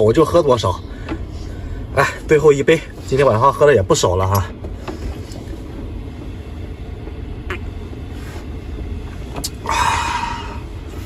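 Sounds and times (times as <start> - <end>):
wind buffeting a vehicle: 0.0 - 11.0.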